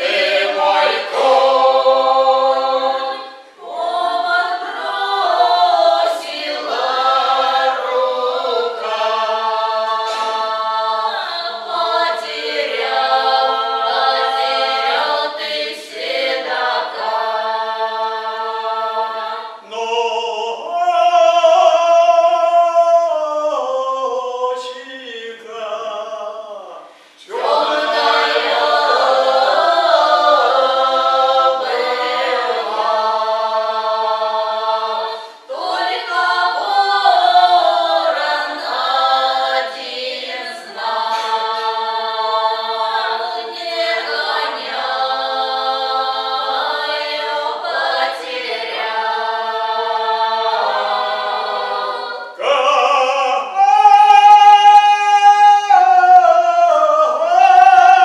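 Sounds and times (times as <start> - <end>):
folk choir singing in harmony: 0.0 - 58.0.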